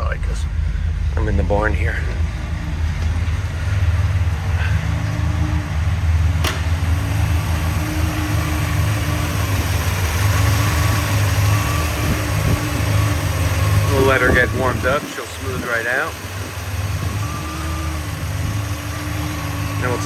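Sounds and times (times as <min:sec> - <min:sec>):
car engine idling rough: 0:00.0 - 0:20.0.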